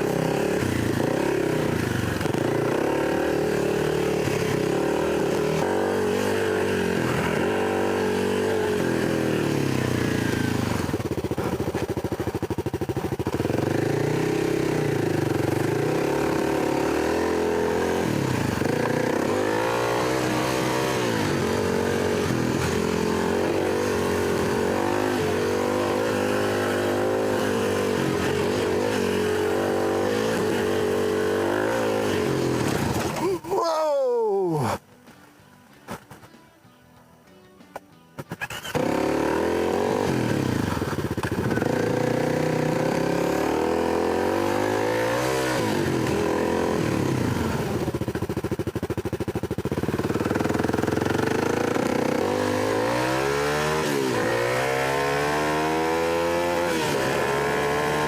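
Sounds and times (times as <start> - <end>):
dirt bike engine revving: 0.0 - 33.5, 38.2 - 58.0.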